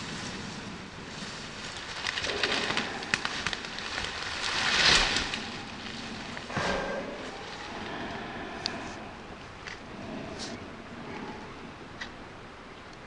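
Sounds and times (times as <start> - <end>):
rustling in grass and undergrowth: 0.0 - 13.0.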